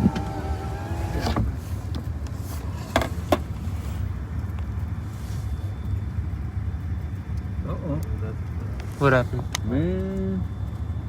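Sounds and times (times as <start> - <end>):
car running from inside: 0.0 - 11.0.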